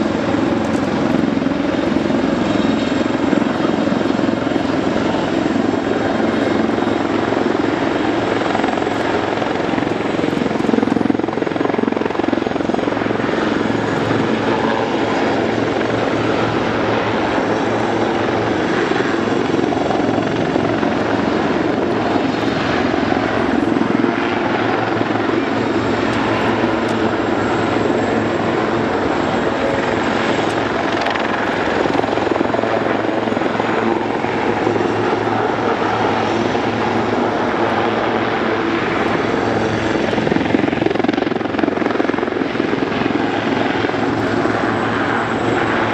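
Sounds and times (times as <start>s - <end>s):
helicopters flying overhead: 0.0s - 45.9s.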